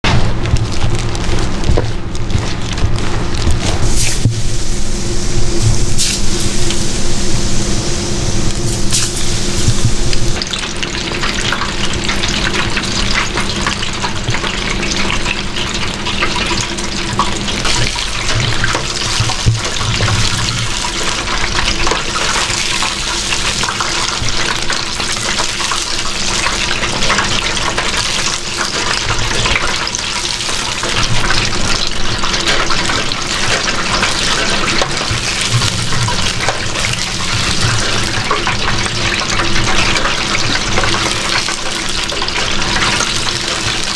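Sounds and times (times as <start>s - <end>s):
deep-frying oil sizzling: 0.0s - 43.9s.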